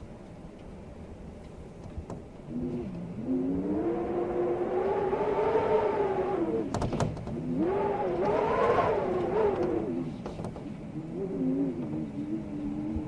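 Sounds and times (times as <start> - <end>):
storm wind howling: 0.0 - 13.0.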